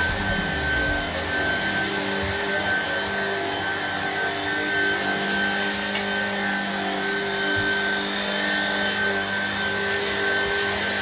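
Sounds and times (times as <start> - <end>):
stick vacuum motor whine: 0.0 - 11.0.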